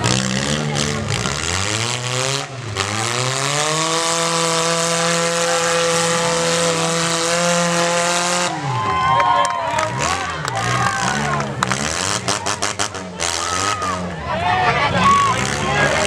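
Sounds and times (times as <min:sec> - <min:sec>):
car engine revving: 0:00.0 - 0:09.1, 0:09.7 - 0:16.0.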